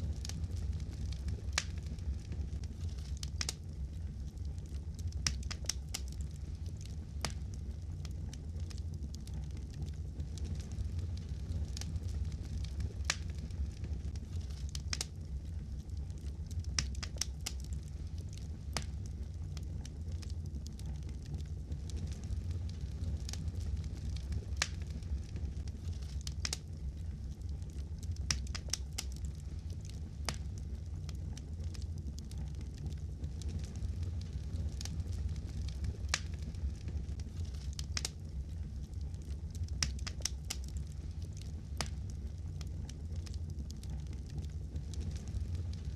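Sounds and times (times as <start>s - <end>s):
fire popping and snapping: 0.0s - 45.9s
low rumble of flames: 0.0s - 45.9s.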